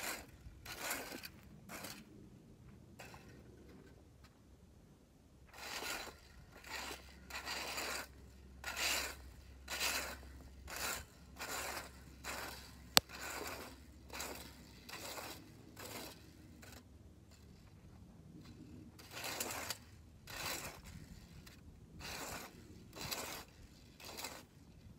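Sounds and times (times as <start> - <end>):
rake scraping dry grass: 0.0 - 2.2, 3.0 - 3.7, 5.5 - 24.9.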